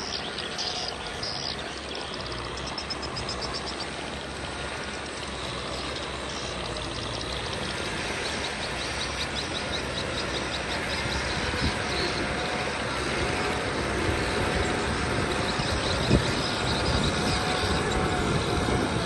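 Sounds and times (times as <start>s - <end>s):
distant diesel tractor engine: 0.0s - 19.0s.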